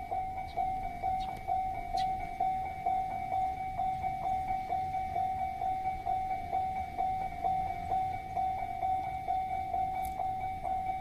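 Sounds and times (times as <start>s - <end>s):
level crossing electronic bell ringing: 0.0s - 11.0s.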